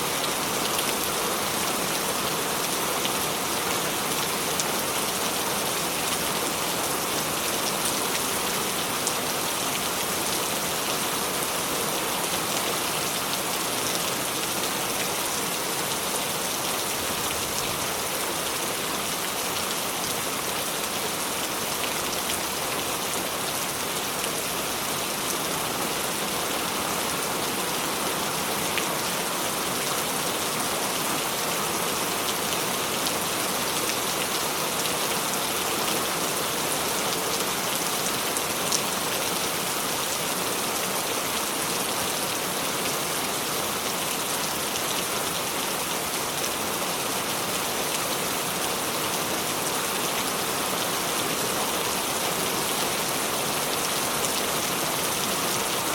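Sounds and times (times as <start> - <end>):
rain with patter of drops: 0.0 - 55.9.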